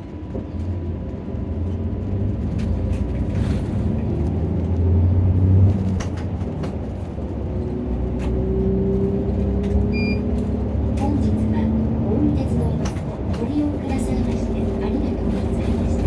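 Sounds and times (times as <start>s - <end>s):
bus diesel engine rumbling: 0.0s - 16.0s.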